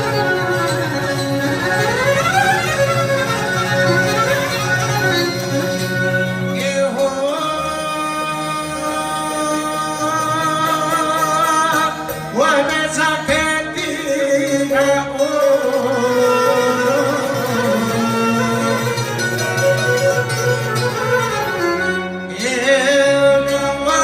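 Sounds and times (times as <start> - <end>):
folk instrumental accompaniment: 0.0 - 24.0.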